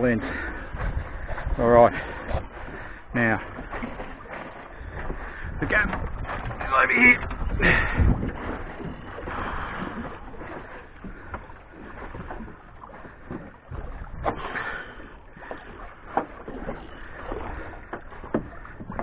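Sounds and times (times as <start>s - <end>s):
waves lapping against boat hull: 0.0s - 19.0s.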